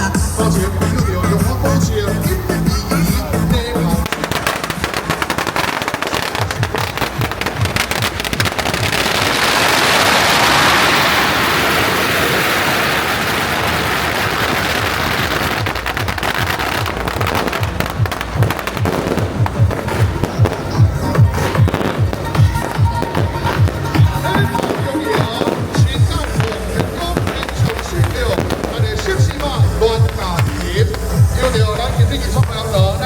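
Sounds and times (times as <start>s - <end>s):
firecrackers crackling: 0.0s - 33.0s
low firework booms: 3.6s - 33.0s.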